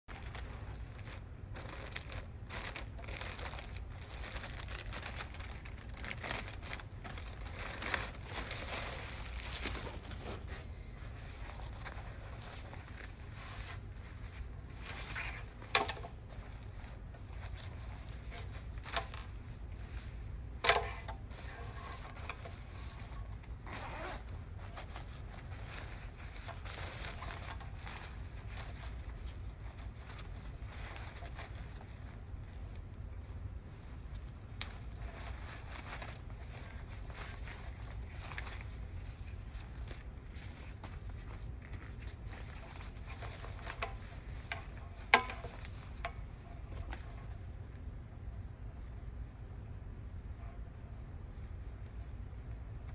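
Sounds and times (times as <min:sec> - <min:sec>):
hydration vest rustling: 0:00.1 - 0:47.4
low steady hum: 0:00.1 - 0:52.9.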